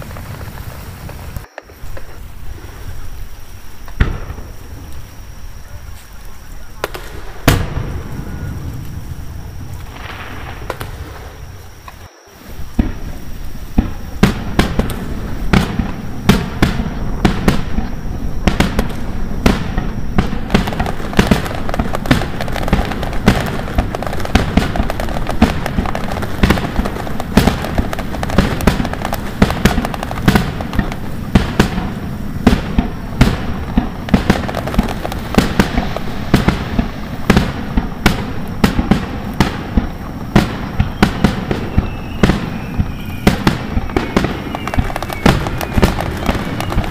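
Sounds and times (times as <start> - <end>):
fireworks rumble and crackle: 0.0 - 46.9.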